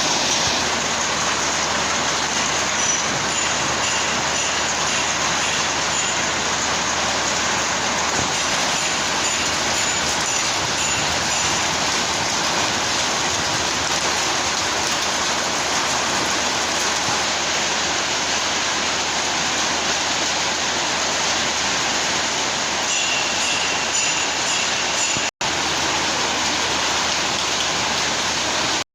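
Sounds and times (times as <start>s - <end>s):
rain falling steadily: 0.0s - 28.8s.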